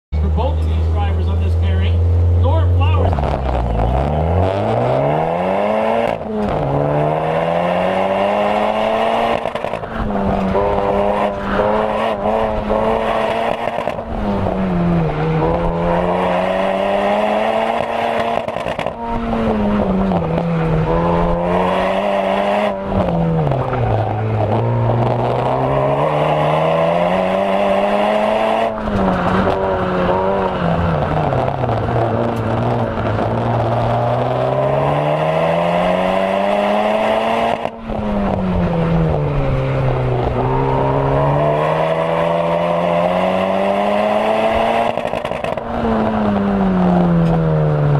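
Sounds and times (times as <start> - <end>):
car engine revving at full effort: 0.2 - 47.9.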